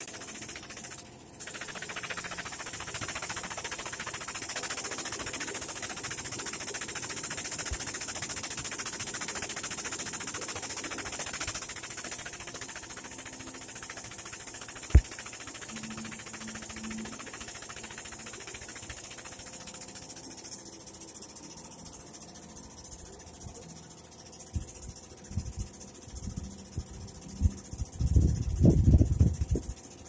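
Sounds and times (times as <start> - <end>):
hydraulic pump chattering: 0.0 - 29.9.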